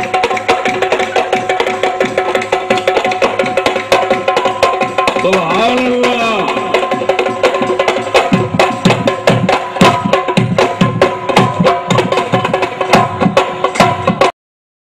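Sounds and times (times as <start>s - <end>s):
hand drum rhythm: 0.0s - 14.3s.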